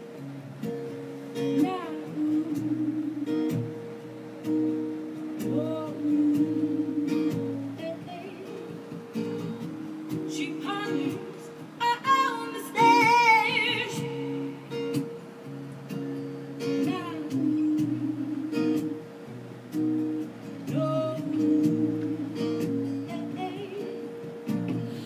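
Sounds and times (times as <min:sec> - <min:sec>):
guitar chords: 0:00.0 - 0:25.0.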